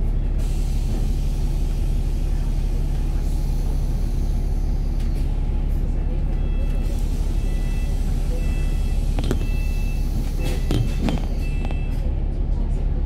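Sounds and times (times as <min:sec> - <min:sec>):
bus engine droning: 0:00.0 - 0:13.0
road rumble: 0:00.0 - 0:13.0.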